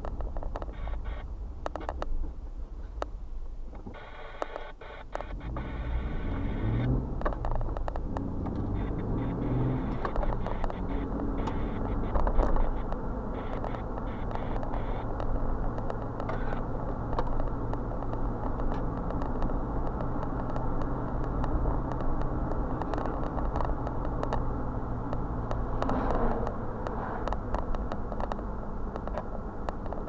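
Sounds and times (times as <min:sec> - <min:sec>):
car engine hum: 0:00.0 - 0:30.0
tyre and road noise: 0:00.0 - 0:30.0.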